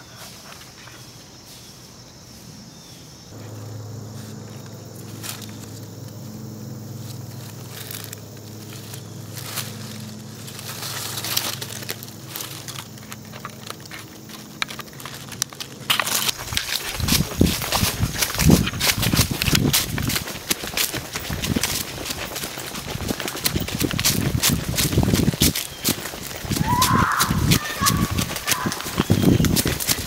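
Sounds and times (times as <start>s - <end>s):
rustling in dry leaves: 0.0s - 30.0s
steady low hum: 3.3s - 30.0s.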